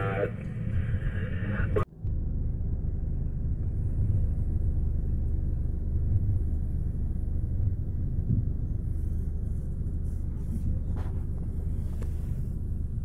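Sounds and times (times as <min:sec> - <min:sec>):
car driving low rumble: 0:00.0 - 0:13.0.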